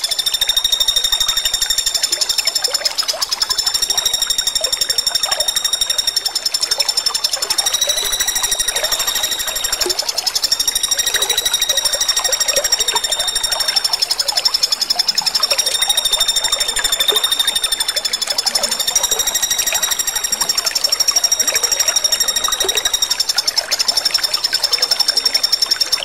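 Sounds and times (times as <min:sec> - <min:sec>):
woodpecker buzzing trill: 0:00.0 - 0:26.0.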